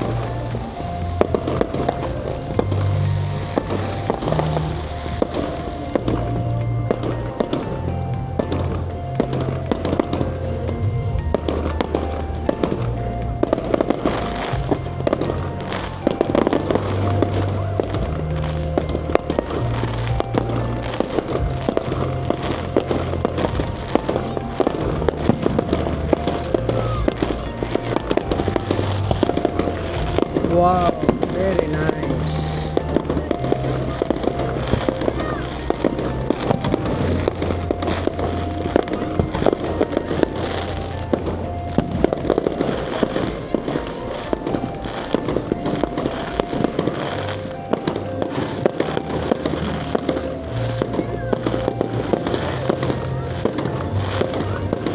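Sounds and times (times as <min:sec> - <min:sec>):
fireworks crackling and banging: 0:00.0 - 0:54.9
music with bass line: 0:00.0 - 0:54.9.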